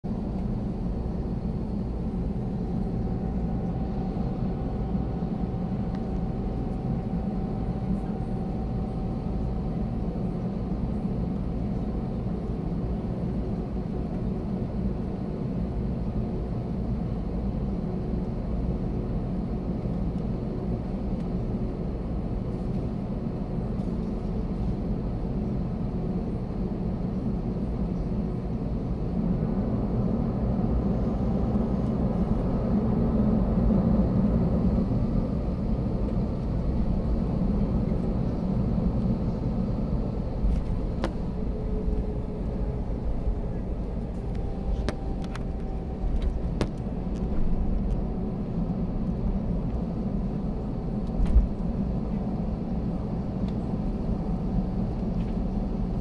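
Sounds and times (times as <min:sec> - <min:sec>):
jet engines idling rumble: 0:00.0 - 0:56.0.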